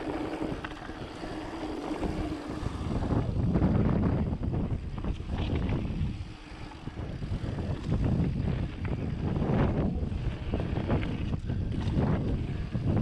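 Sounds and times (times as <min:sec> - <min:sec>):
bike rattling over bumps: 0:00.0 - 0:13.0
wind buffeting microphone: 0:00.0 - 0:13.0.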